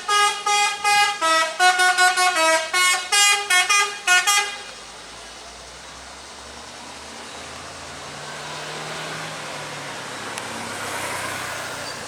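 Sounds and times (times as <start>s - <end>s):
bus engine humming: 0.0s - 12.0s
road traffic noise: 0.0s - 12.0s.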